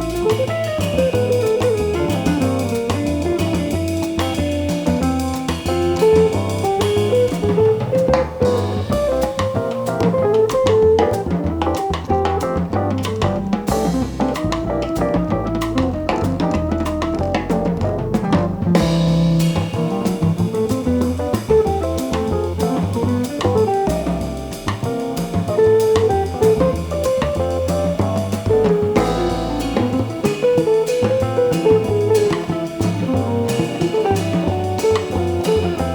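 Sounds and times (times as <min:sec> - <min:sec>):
bass: 0:00.0 - 0:35.9
drum kit with cymbals: 0:00.0 - 0:35.9
guitar: 0:00.0 - 0:35.9
jazz band playing: 0:00.0 - 0:35.9.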